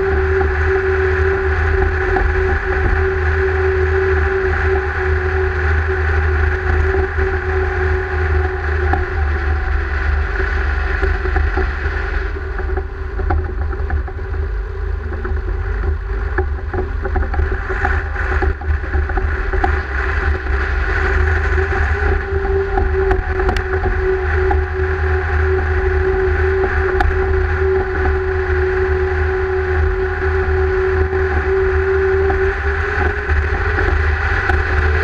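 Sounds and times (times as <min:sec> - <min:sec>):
tractor diesel engine drone: 0:00.0 - 0:35.0.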